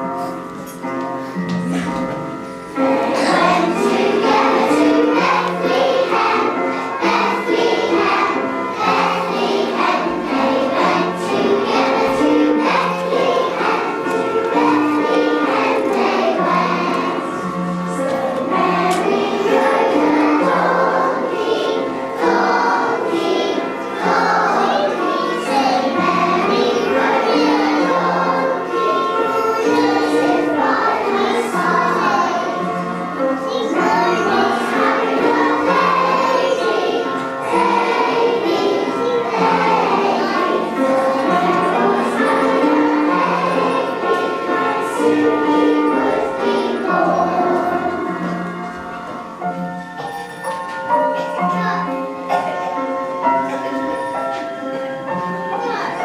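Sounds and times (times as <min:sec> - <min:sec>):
children's choir singing: 0:00.0 - 0:56.0
instrumental accompaniment: 0:00.0 - 0:56.0.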